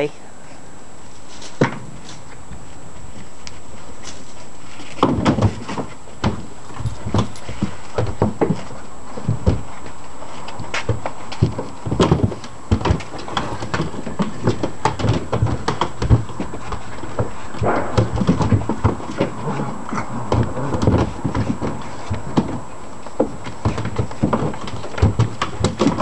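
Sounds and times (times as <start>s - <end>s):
paws scrabbling on plastic: 1.3s - 26.0s.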